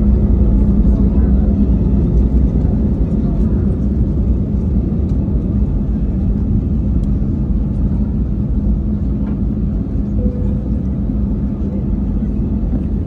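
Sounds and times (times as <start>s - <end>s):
airplane cabin rumble: 0.0s - 13.0s
constant hum: 0.0s - 13.0s.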